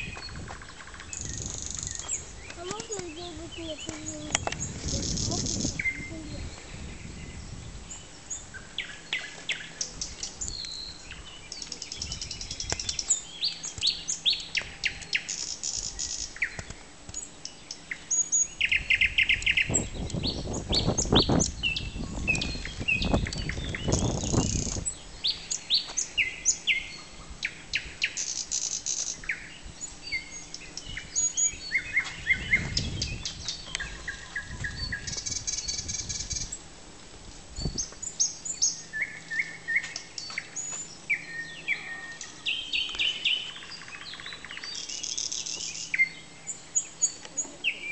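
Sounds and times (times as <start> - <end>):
bird singing whistles and trills: 1.1 - 36.6, 37.6 - 47.9.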